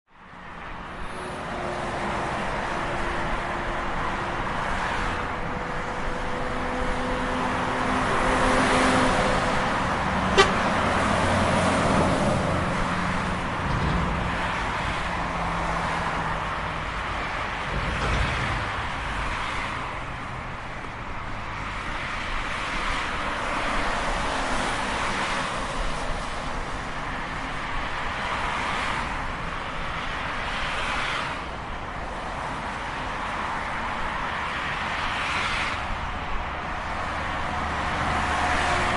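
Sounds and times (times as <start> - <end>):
cars and trucks passing: 0.1 - 38.9.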